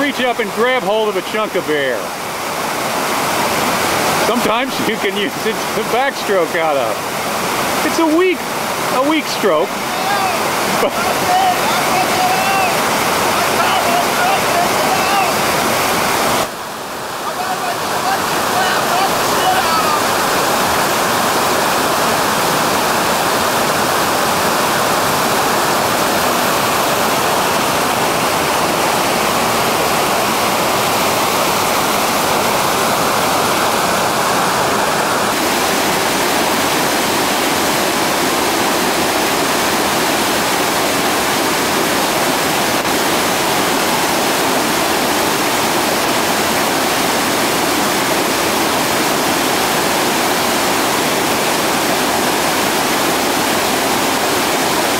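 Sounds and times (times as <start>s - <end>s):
whitewater rapids rushing: 0.0s - 54.9s.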